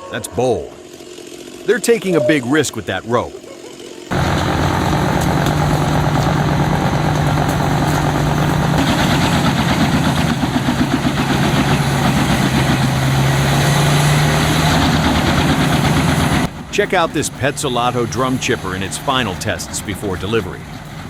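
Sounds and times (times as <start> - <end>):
engine running at high speed: 4.0 - 21.0.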